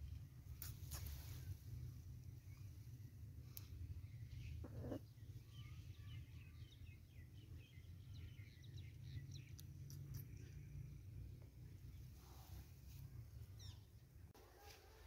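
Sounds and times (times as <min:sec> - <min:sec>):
steady low rumble: 0:00.0 - 0:14.3
small birds chirping: 0:00.0 - 0:14.4.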